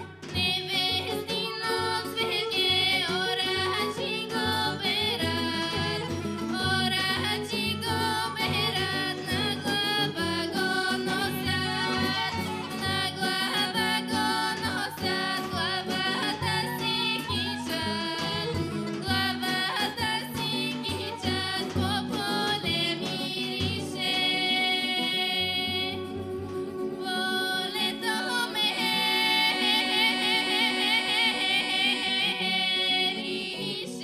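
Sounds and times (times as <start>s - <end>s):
folk band playing: 0.0s - 34.0s
women singing folk song: 0.0s - 34.0s.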